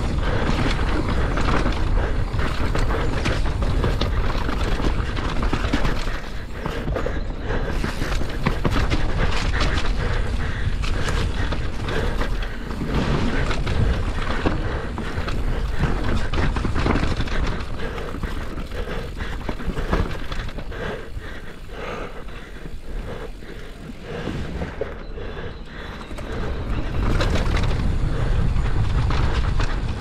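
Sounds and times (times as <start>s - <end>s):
bike rattling over bumps: 0.0s - 30.0s
bike tyres rolling on dirt: 0.0s - 30.0s
wind rumble on microphone: 0.0s - 30.0s.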